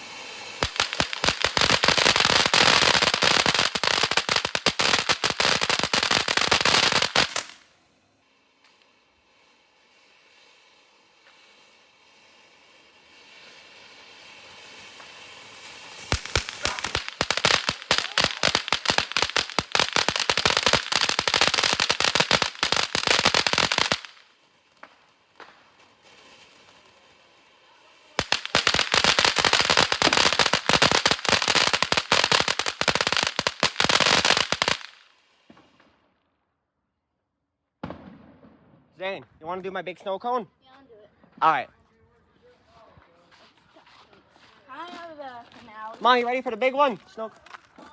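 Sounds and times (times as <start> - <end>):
firework fountain hissing and crackling: 0.0 - 36.1, 39.4 - 47.9.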